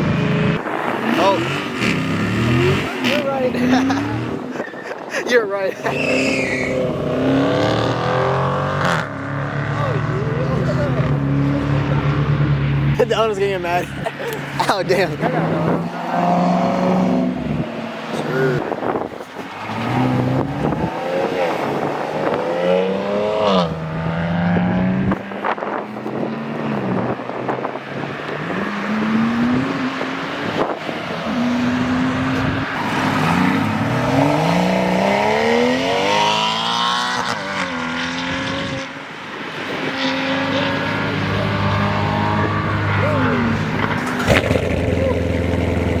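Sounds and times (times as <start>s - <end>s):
car engines revving hard: 0.0s - 46.0s.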